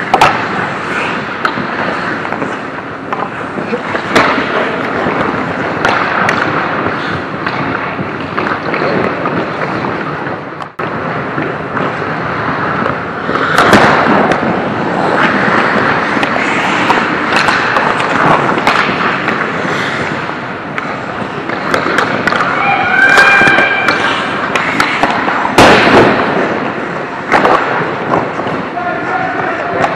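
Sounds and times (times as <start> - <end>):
sharp clacks of sticks and puck: 0.0 - 29.9
skates scraping on ice: 0.0 - 29.9.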